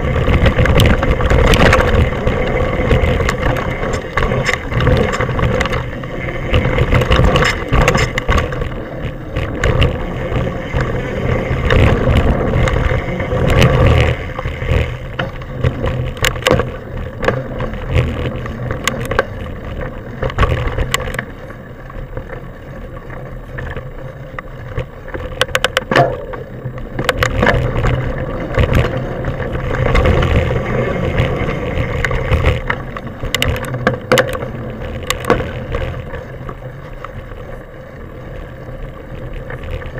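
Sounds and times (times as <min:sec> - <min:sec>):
bike rattling over bumps: 0:00.0 - 0:39.9
wind and tyres rumbling on dirt: 0:00.0 - 0:39.9.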